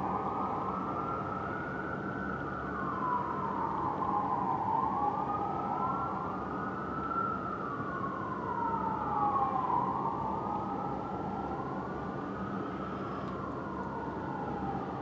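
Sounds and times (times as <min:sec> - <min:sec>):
fire engine siren wailing: 0:00.0 - 0:15.0
second siren wailing: 0:00.0 - 0:15.0.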